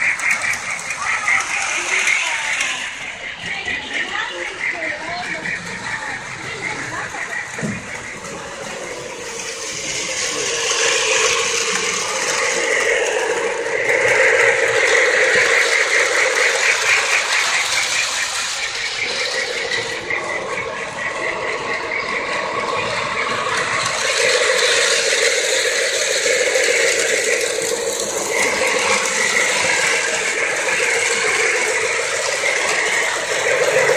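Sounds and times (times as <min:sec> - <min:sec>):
model trains rattling on track: 0:00.0 - 0:33.9.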